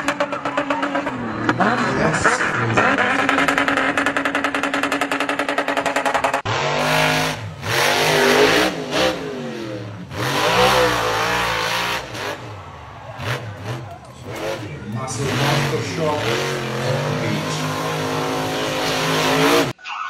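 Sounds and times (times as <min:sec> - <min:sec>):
car engine at high revs: 0:00.0 - 0:19.8
monster truck engine revving: 0:00.0 - 0:19.8.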